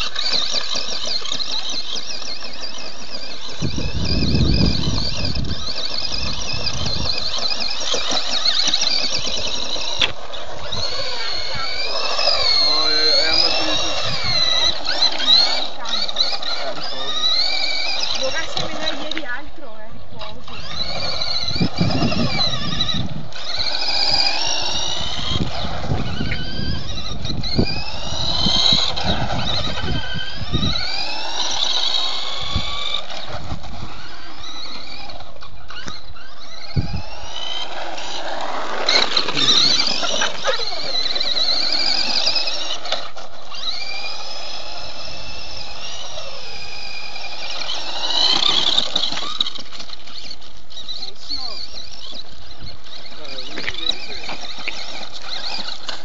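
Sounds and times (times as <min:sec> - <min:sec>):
toy car electric motor whining: 0:00.0 - 0:56.0.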